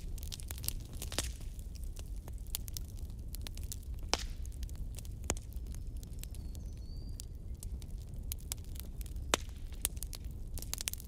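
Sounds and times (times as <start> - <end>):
low rumble of flames: 0.0 - 11.0
wood fire crackling and popping: 0.0 - 11.0.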